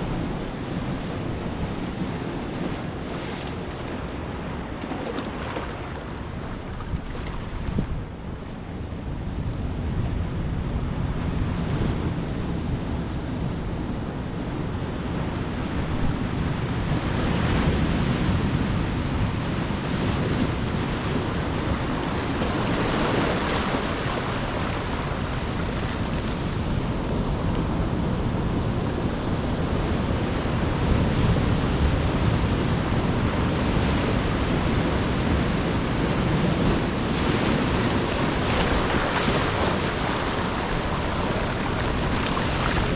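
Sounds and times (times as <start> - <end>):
ocean waves breaking on shore: 0.0 - 9.4, 14.5 - 42.9
wind noise on microphone: 0.0 - 42.9.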